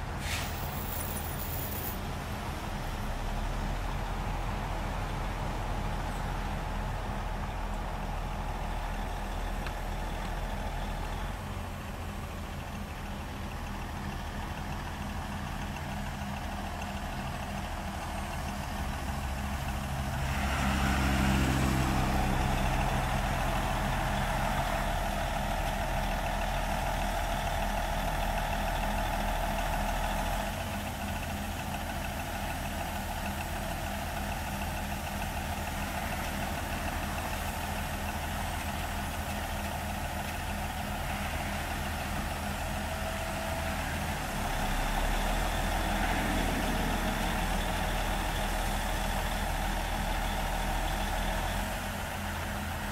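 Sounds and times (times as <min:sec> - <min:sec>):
diesel engines running: 0:00.0 - 0:52.9.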